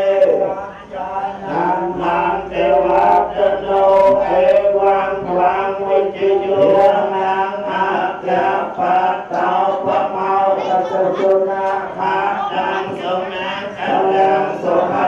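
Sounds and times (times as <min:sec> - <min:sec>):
voices chanting long notes: 0:00.0 - 0:15.0.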